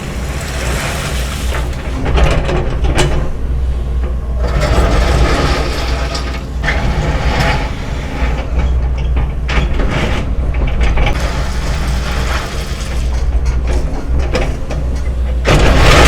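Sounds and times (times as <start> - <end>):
bucket clanking and scraping gravel: 0.0 - 3.5, 4.4 - 8.9, 9.5 - 16.0
excavator diesel engine: 0.0 - 16.0
hydraulic surges: 0.0 - 16.0.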